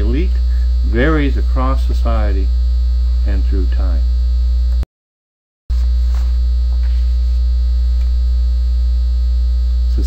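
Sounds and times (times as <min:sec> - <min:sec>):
electrical mains hum: 0:00.0 - 0:04.9, 0:05.7 - 0:10.0.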